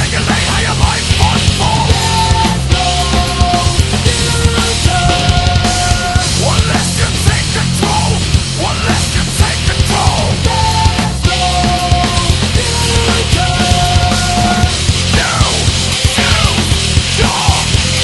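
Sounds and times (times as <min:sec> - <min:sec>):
heavy rock music: 0:00.0 - 0:18.0.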